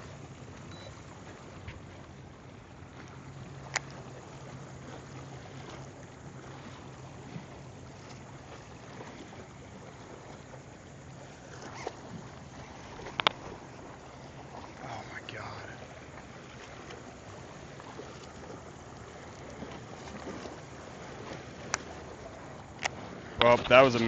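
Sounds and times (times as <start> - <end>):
boat low hum: 0.0 - 24.0
water noise: 0.0 - 24.0
wind: 0.0 - 24.0.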